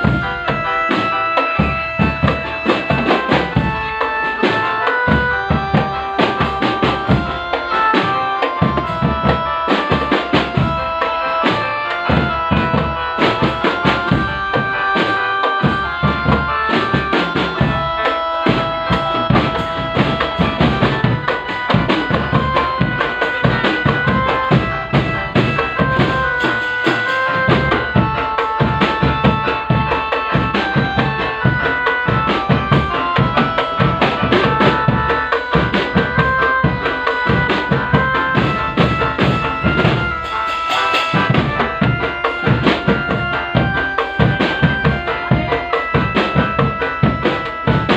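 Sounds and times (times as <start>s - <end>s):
bass and snare drums beating: 0.0s - 47.9s
melody of held notes: 0.0s - 47.9s.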